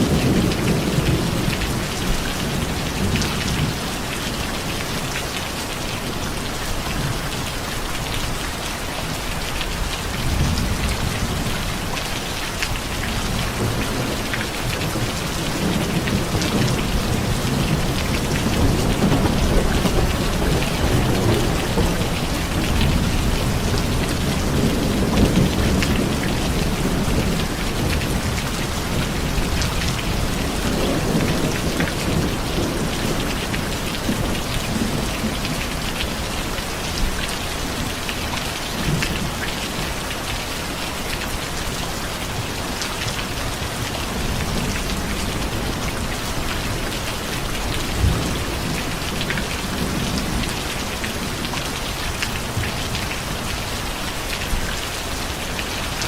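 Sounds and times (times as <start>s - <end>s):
low rumble of thunder: 0.0s - 5.2s, 9.7s - 40.1s, 42.3s - 56.0s
heavy rain pattering: 0.0s - 56.0s.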